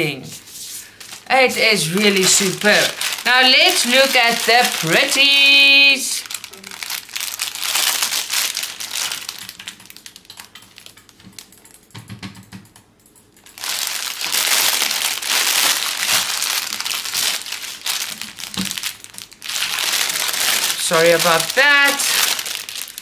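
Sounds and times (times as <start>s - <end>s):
plastic bag crinkling: 0.8s - 11.8s, 13.4s - 23.0s.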